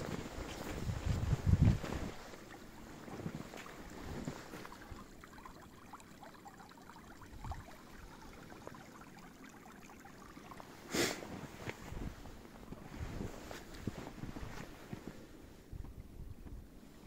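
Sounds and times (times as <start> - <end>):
stream trickling: 0.4 - 14.7.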